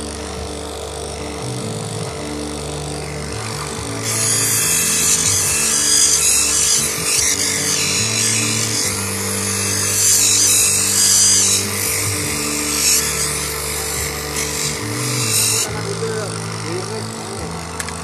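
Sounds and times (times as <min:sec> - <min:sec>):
background music: 0:00.0 - 0:18.0
grinding wheel hissing: 0:00.0 - 0:18.0.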